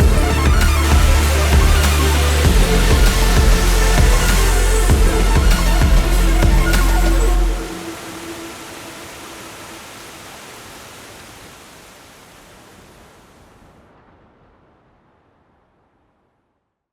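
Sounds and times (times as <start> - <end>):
falling water rushing: 0.0 - 14.1.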